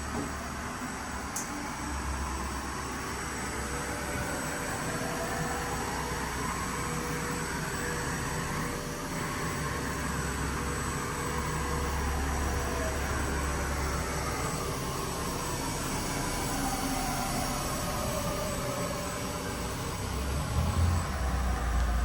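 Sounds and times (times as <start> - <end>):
machine hum and hiss: 0.0 - 22.0
motor whine rising and falling: 0.0 - 22.0.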